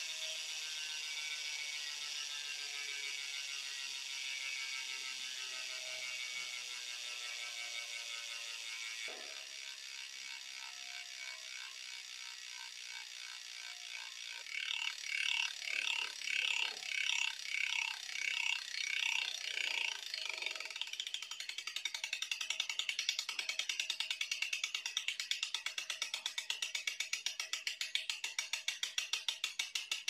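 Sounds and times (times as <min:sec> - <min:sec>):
bicycle freehub clicking: 0:00.4 - 0:02.4, 0:03.3 - 0:05.7, 0:08.2 - 0:10.6, 0:11.2 - 0:30.0.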